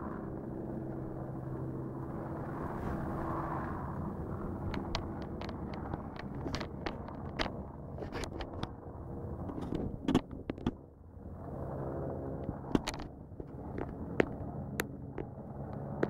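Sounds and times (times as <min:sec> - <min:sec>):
helicopter hovering: 0:00.0 - 0:16.0.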